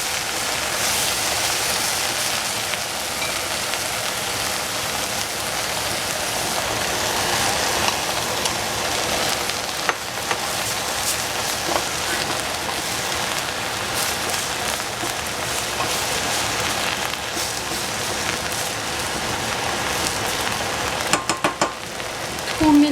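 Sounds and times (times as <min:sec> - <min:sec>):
food sizzling in a frying pan: 0:00.0 - 0:22.9.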